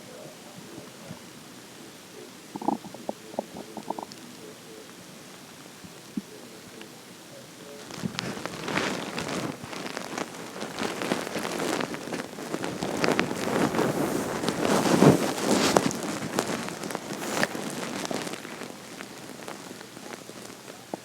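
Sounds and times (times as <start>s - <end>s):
stomach growling: 0.0s - 21.0s.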